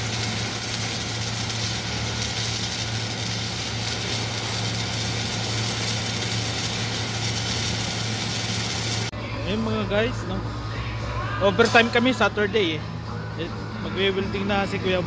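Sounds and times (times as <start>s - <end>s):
welding equipment humming and hissing: 0.0s - 15.0s.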